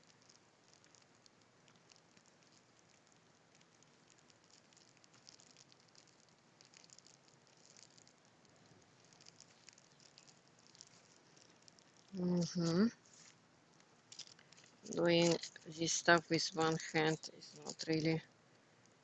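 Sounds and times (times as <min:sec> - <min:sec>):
small ticks and crackles of hands: 0:00.0 - 0:19.0.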